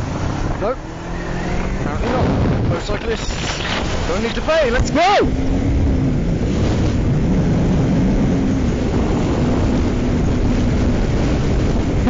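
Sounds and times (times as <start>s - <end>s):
motorcycle engine running: 0.0s - 3.2s, 5.0s - 12.0s
wind on microphone: 0.0s - 12.0s.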